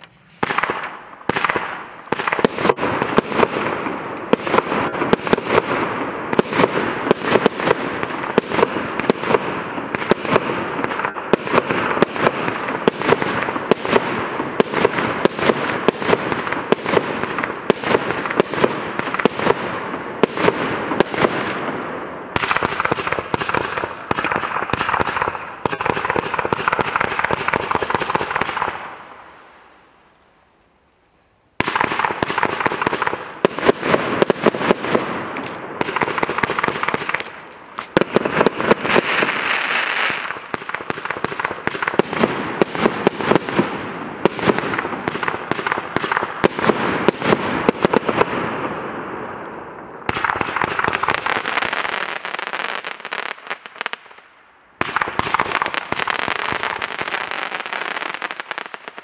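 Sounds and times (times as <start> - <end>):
fireworks shots: 0.0 - 29.8, 31.6 - 59.0
fireworks crackle: 0.0 - 30.2, 31.6 - 59.0.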